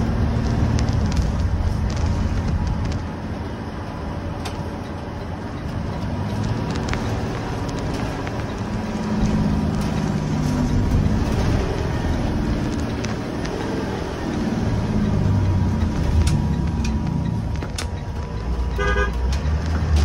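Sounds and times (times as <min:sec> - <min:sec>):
diesel bus engine running: 0:00.0 - 0:20.0
road rumble: 0:00.0 - 0:20.0.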